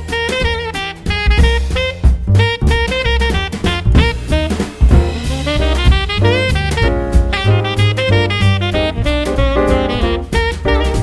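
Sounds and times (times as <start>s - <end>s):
saxophone: 0.0s - 11.0s
upbeat jazz music: 0.0s - 11.0s.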